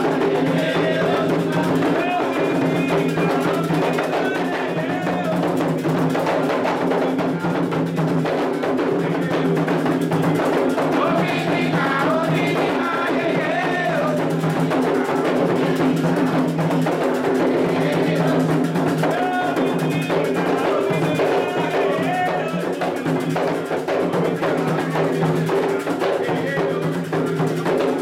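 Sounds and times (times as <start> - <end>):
fast hand drumming: 0.0 - 28.0
voices singing: 0.0 - 28.0.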